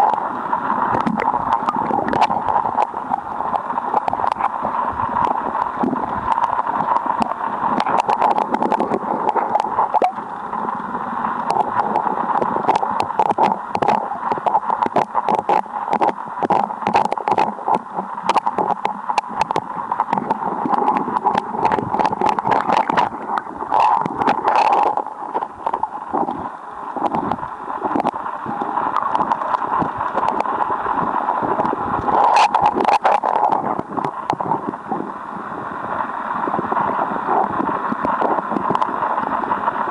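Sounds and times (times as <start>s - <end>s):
sharp underwater clicks and knocks: 0.0s - 35.0s, 36.5s - 39.9s
muffled underwater river gurgle: 0.0s - 39.9s.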